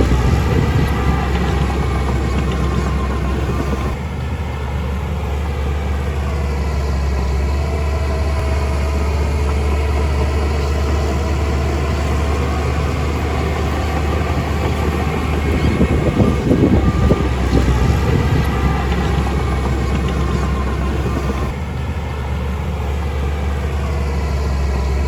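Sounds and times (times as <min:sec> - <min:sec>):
faint whining tones: 0:00.0 - 0:25.0
heavy machine engine rumbling: 0:00.0 - 0:25.0.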